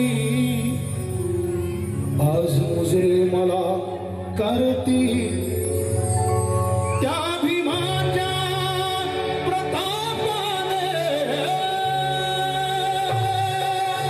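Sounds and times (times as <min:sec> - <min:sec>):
live band with singing: 0:00.0 - 0:14.0.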